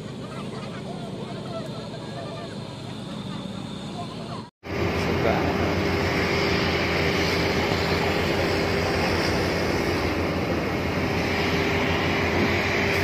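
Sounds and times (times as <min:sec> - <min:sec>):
aircraft engine noise: 0:00.0 - 0:13.0.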